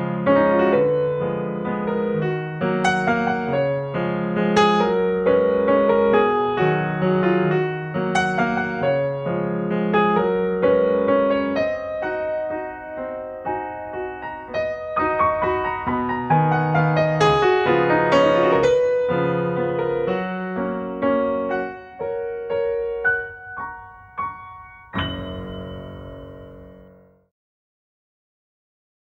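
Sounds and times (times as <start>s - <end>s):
piano notes and chords: 0.0s - 27.3s.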